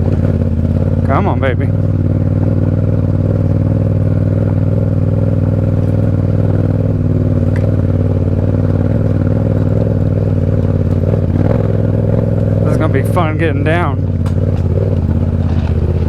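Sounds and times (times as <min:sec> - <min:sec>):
motorcycle engine under load: 0:00.0 - 0:16.0.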